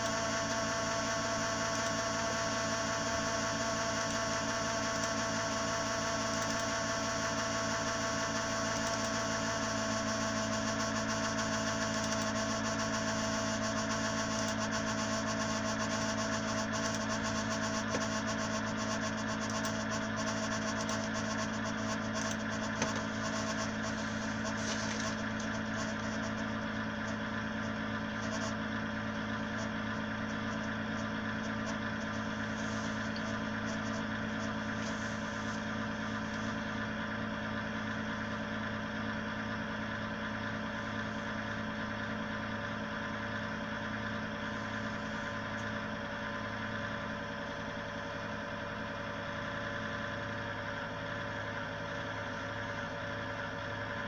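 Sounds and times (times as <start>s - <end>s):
power supply humming: 0.0s - 48.4s.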